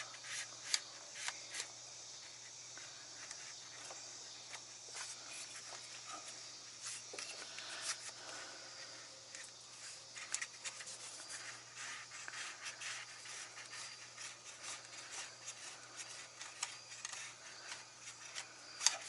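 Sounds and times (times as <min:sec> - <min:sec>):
faint steady hum: 0:00.0 - 0:19.0
rubbing and scratching: 0:00.0 - 0:19.0.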